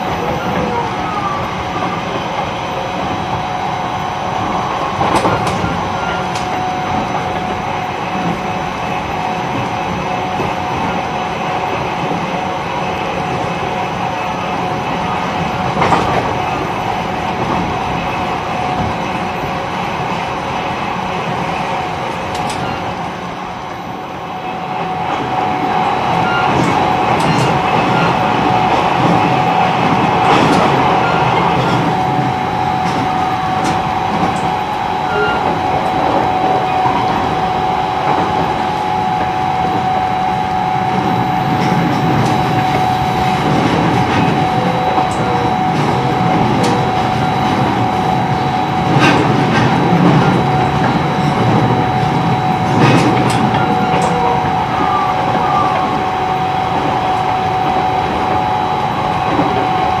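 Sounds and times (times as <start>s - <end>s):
constant high whine: 0.0s - 60.0s
train wheels rumbling on rail: 0.0s - 60.0s.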